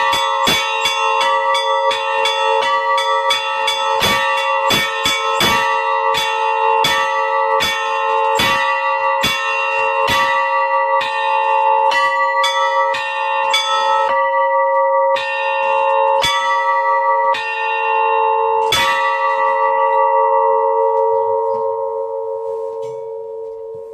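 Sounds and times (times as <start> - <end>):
bells ringing: 0.0 - 23.9.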